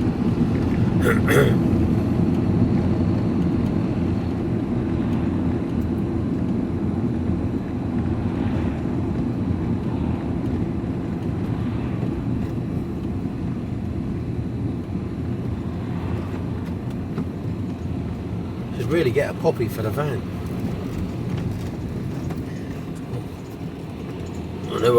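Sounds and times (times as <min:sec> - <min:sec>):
engine and road noise in van: 0:00.0 - 0:24.9.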